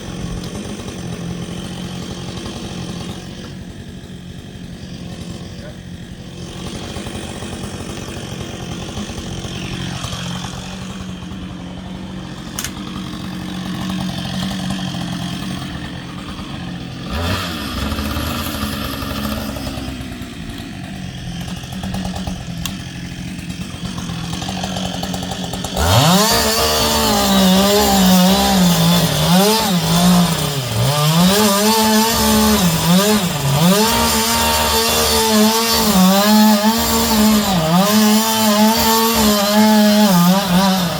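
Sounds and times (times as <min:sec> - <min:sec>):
chainsaw engine cutting: 0:00.0 - 0:40.9.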